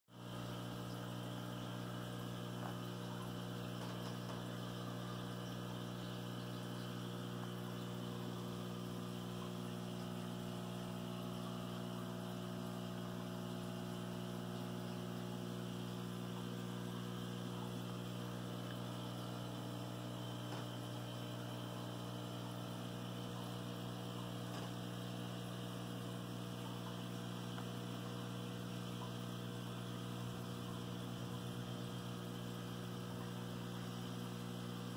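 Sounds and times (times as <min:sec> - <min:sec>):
electrical hum: 0:00.1 - 0:34.9.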